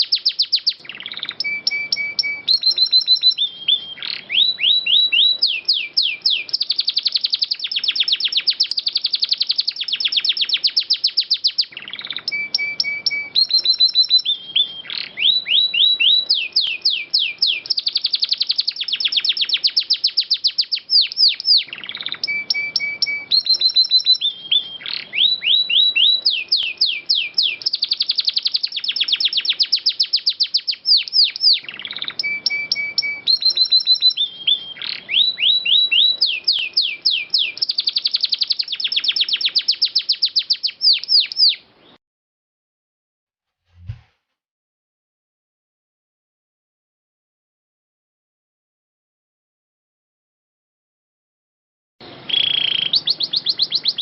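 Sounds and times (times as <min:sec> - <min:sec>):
canary singing trills: 0:00.0 - 0:42.0, 0:52.0 - 0:54.0.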